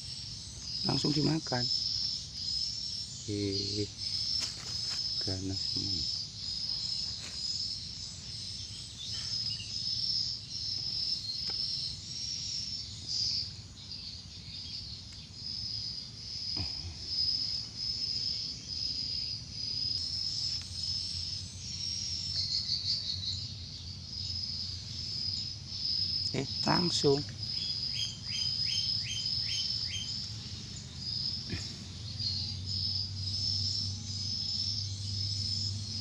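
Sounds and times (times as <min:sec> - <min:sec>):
insects buzzing trill: 0:00.0 - 0:36.0.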